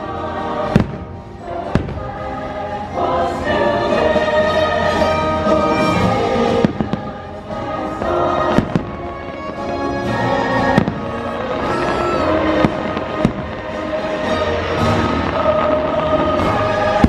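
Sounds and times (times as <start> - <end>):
show music: 0.0 - 17.0
fireworks bangs: 0.6 - 2.5, 5.1 - 17.0.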